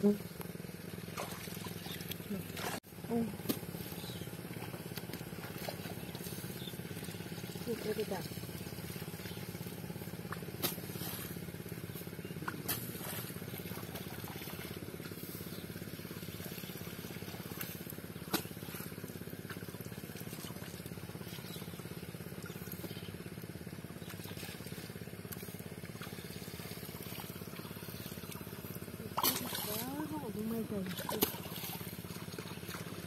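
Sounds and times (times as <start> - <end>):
steady low hum: 0.0 - 33.0
hands splashing in muddy water: 1.1 - 23.0, 23.8 - 33.0.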